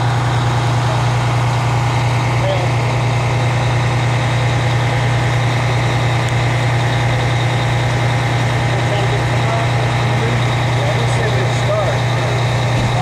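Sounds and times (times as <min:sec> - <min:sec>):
large engine idling: 0:00.0 - 0:13.0.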